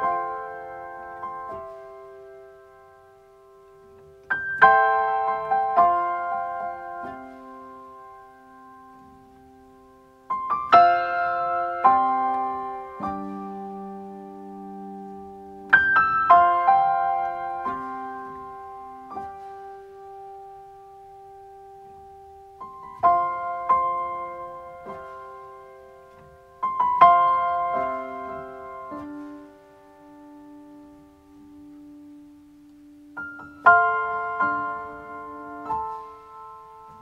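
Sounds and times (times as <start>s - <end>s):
gentle solo piano: 0.0s - 37.0s.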